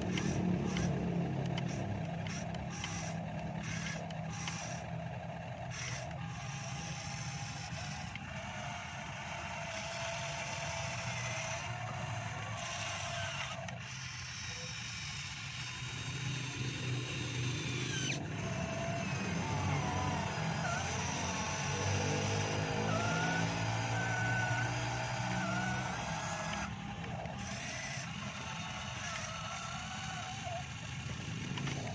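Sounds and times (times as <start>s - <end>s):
hydraulic pump humming: 0.0s - 31.9s
whining tones: 0.0s - 31.9s.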